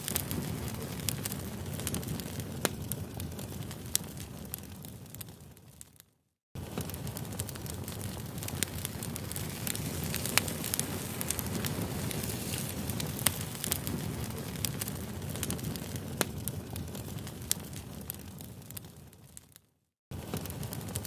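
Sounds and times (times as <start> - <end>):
campfire crackling: 0.0 - 6.0, 6.6 - 21.0.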